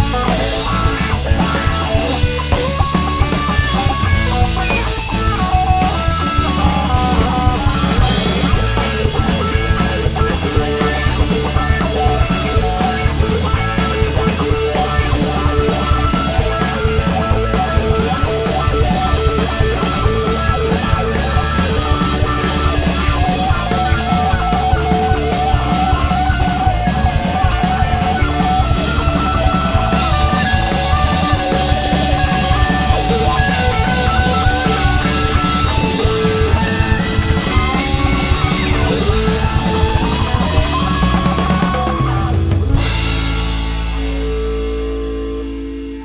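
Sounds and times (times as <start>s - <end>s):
wavering lead line: 0.0s - 43.1s
drum kit: 0.0s - 46.0s
guitars and bass: 0.0s - 46.0s.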